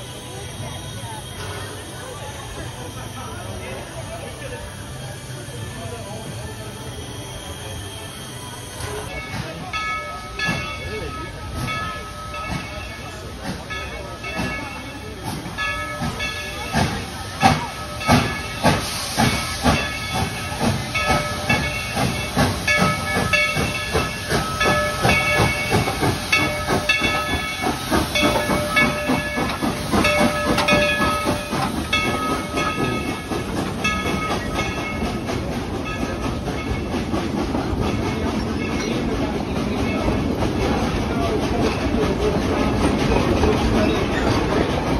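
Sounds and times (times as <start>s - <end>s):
steam hissing: 0.0s - 44.9s
steam locomotive chuffing: 0.0s - 44.9s.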